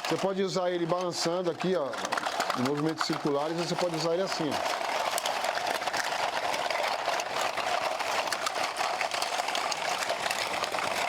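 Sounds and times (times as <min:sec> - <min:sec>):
crackling rasp of clicks: 0:00.0 - 0:11.0.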